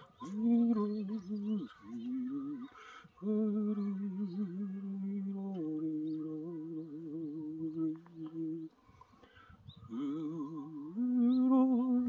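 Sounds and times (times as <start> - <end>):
person humming slow tune: 0.0 - 8.7, 9.9 - 12.0.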